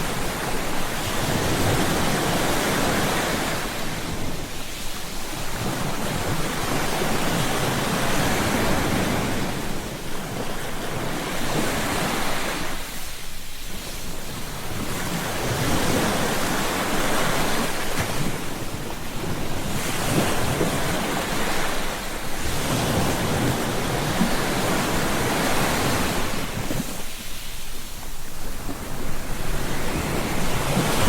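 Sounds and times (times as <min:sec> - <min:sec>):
ocean surf breaking on beach: 0:00.0 - 0:31.0.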